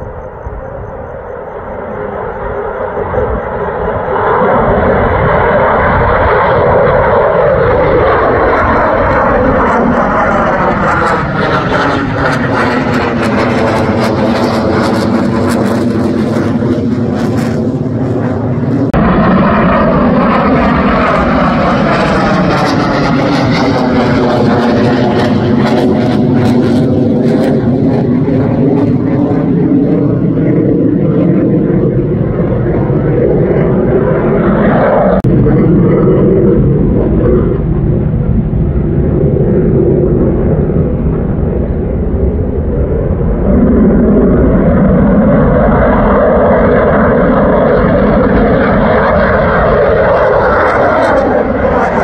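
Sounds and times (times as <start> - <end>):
fighter jets taking off: 0.0 - 52.0.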